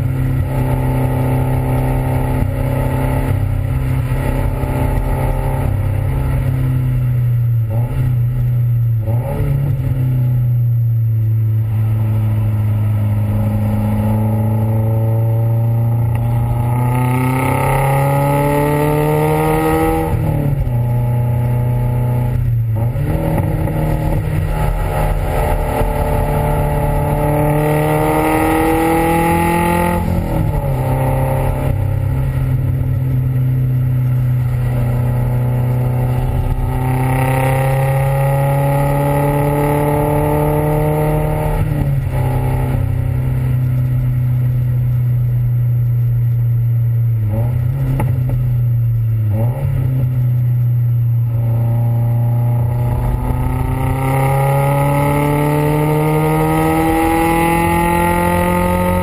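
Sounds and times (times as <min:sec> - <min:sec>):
car exhaust accelerating: 0:00.0 - 0:59.0.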